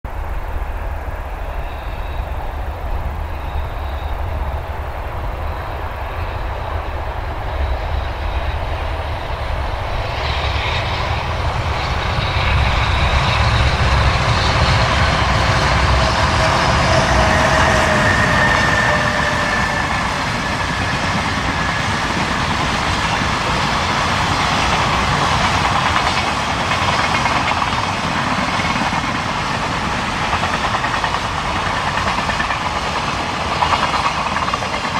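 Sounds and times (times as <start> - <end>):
freight train rumbling past: 0.0 - 34.9.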